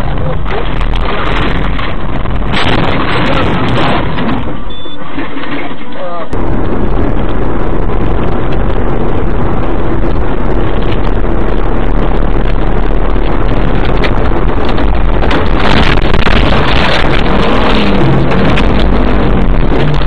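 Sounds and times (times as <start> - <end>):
car rumble from inside: 0.0 - 20.0
road and wind noise: 0.0 - 20.0.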